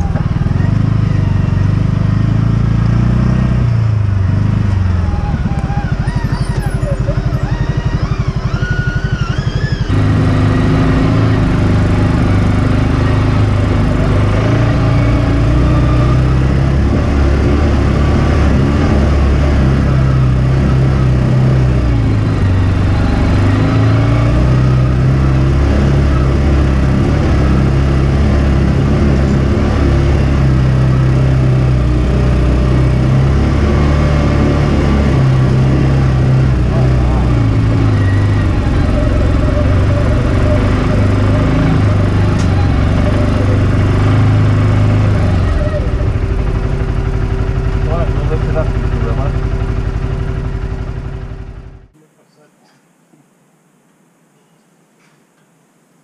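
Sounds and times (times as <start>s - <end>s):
engine running steadily: 0.0s - 52.2s.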